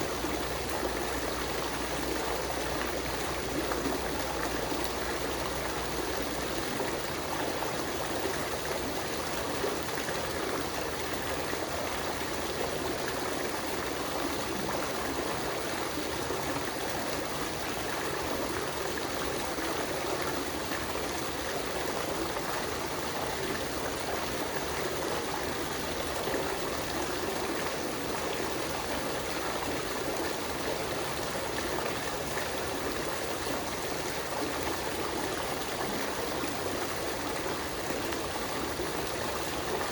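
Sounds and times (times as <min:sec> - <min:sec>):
water fountain splashing: 0:00.0 - 0:39.9.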